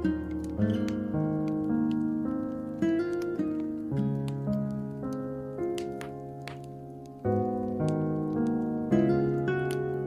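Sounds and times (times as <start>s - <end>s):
slow gentle piano music: 0.0s - 10.0s
wood fire crackling: 0.0s - 10.0s.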